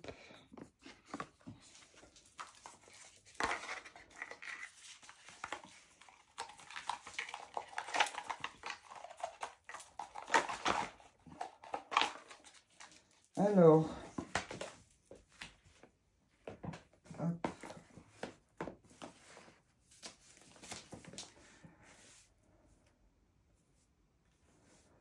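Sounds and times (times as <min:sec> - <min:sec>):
cards and paper rustling: 0:00.0 - 0:22.8.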